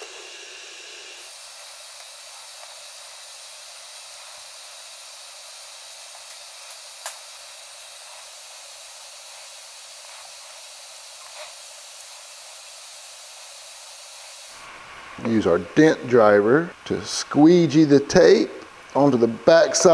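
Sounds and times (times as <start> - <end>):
steady hiss: 0.0 - 19.9.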